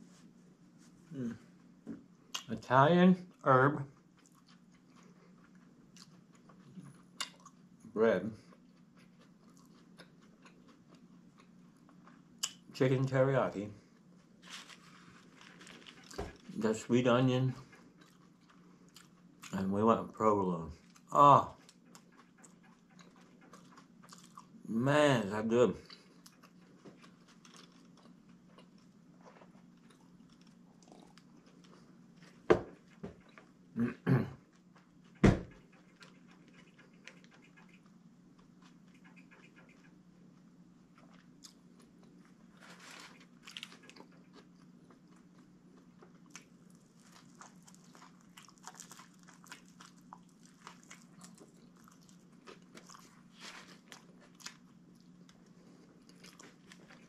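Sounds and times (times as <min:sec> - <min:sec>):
person chewing: 0:03.9 - 0:07.8, 0:08.4 - 0:12.7, 0:13.9 - 0:16.6, 0:17.6 - 0:19.6, 0:20.8 - 0:24.6, 0:25.8 - 0:57.0.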